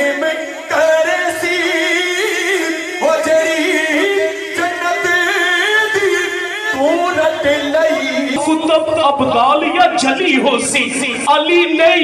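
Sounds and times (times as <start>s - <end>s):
man singing through loudspeaker: 0.0s - 12.0s.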